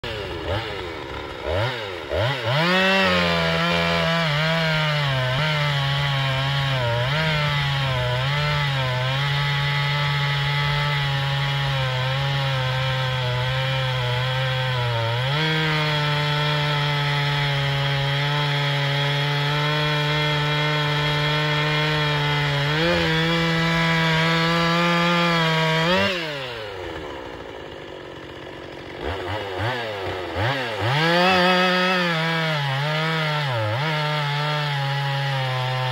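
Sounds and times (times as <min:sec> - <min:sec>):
chainsaw engine running fast: 0:00.0 - 0:35.9.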